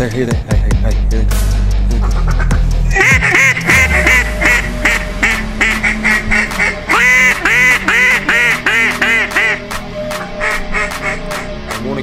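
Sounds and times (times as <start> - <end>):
duck quacks: 2.0 - 11.8.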